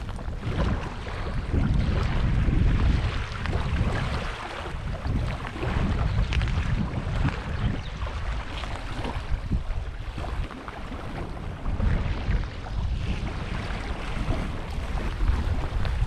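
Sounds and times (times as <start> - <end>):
small waves lapping shore: 0.0 - 16.0
wind buffeting microphone: 0.0 - 16.0.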